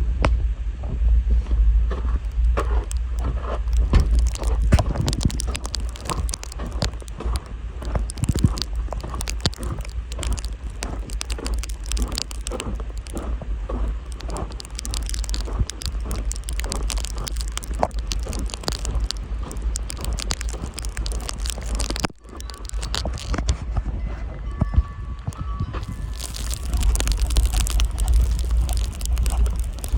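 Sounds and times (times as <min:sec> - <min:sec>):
ice pellets ticking: 0:02.1 - 0:23.6, 0:25.2 - 0:29.9.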